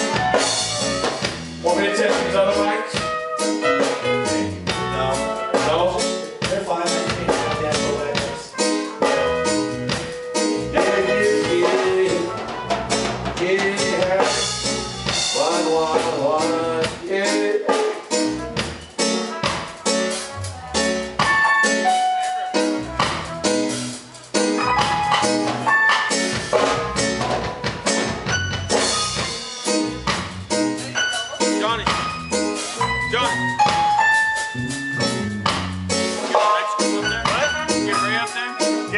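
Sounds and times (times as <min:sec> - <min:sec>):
reggae band playing: 0:00.0 - 0:38.9.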